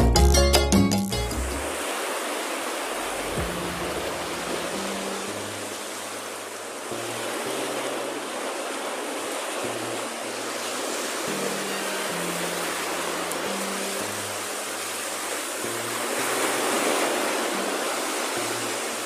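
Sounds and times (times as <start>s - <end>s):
surf washing up beach: 1.3s - 19.0s.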